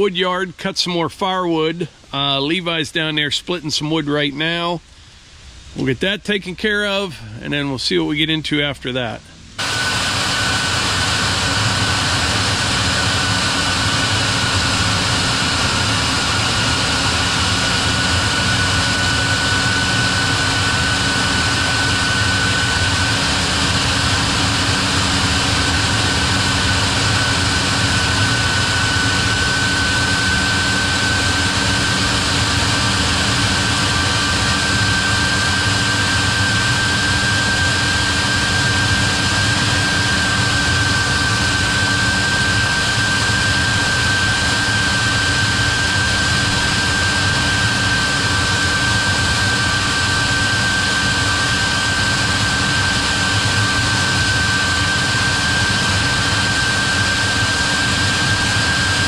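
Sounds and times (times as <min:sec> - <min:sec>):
high whine rising in pitch: 0:09.6 - 0:59.0
machine engine running: 0:09.6 - 0:59.0.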